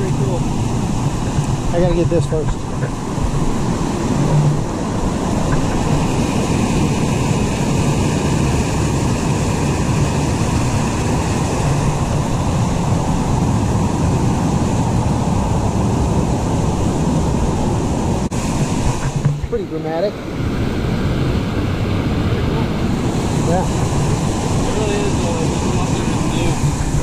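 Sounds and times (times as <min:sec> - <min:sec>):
water rushing over rocks: 0:00.0 - 0:27.0.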